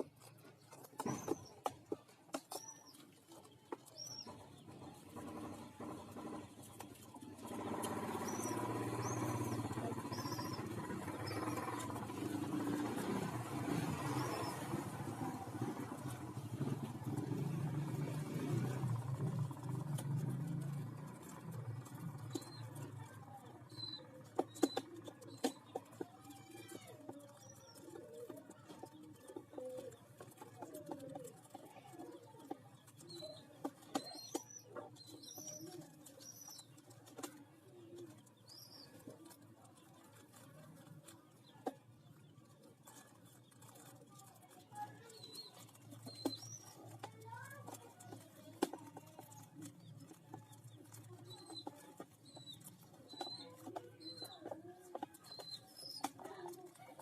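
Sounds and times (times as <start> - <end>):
young pigeons peeping: 0.0 - 57.0.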